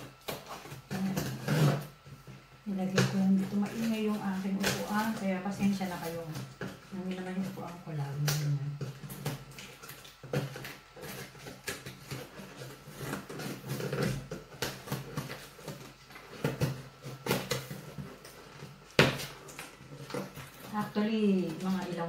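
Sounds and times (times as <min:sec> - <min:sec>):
scraping and rustling cardboard: 0:00.0 - 0:22.0.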